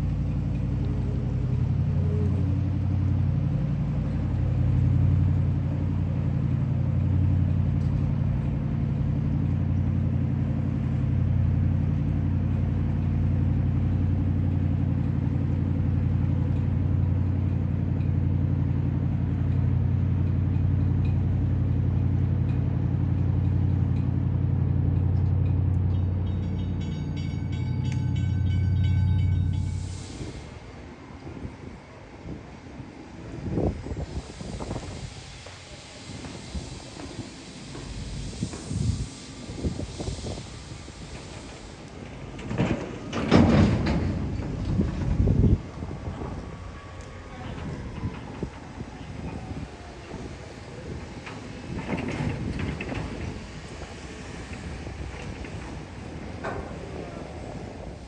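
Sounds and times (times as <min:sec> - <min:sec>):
heavy engine droning: 0:00.0 - 0:58.0.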